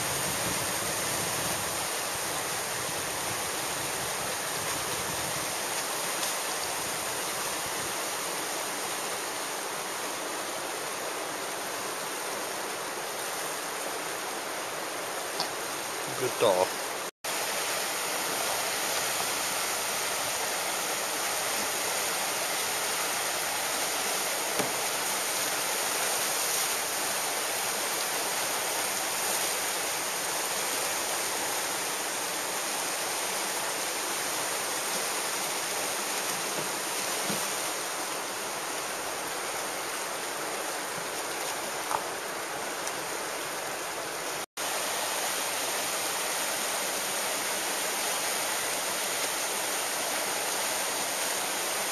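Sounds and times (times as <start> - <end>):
whitewater rapids rushing: 0.0 - 51.9.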